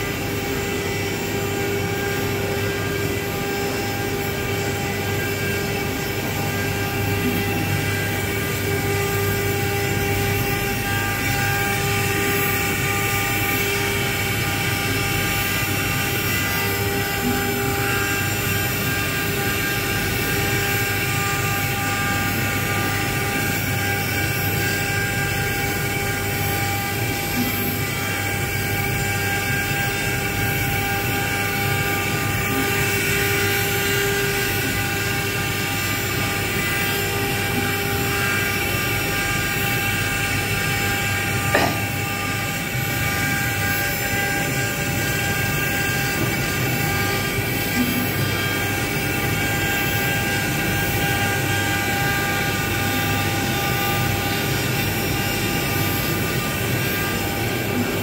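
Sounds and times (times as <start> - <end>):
router spindle whine: 0.0 - 58.0
bit carving wood: 0.9 - 57.8.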